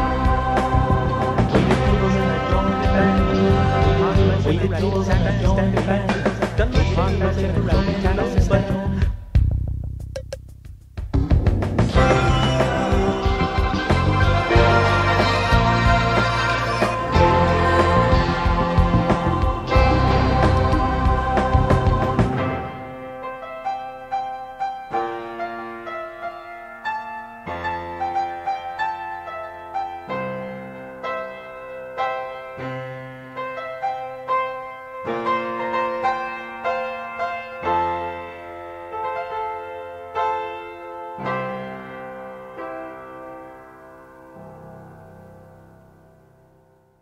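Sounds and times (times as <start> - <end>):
keyboard piano music: 0.0 - 8.9, 11.2 - 47.0.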